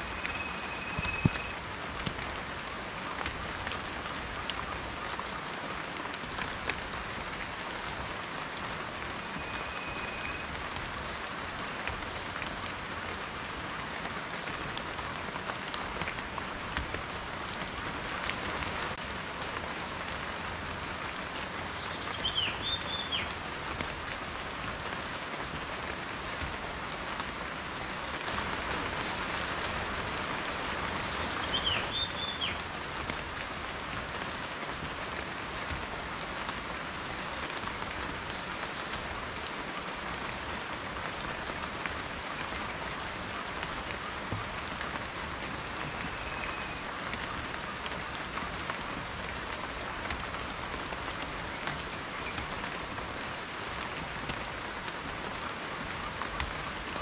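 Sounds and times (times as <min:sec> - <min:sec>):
raindrops ticking: 0:00.0 - 0:28.8, 0:29.6 - 0:57.0
steady rain hiss: 0:00.0 - 0:57.0.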